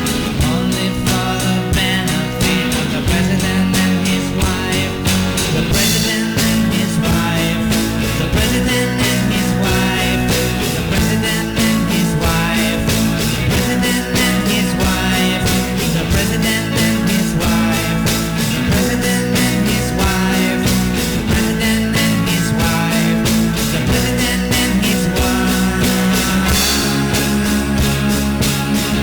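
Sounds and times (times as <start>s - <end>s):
drum beat: 0.0s - 29.0s
guitar and bass: 0.0s - 29.0s
rock music: 0.0s - 29.0s.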